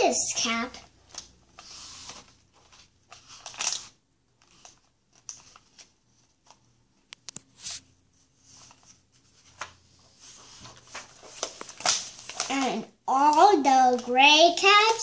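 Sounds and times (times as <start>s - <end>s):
hands rustling book pages: 0.4s - 15.0s.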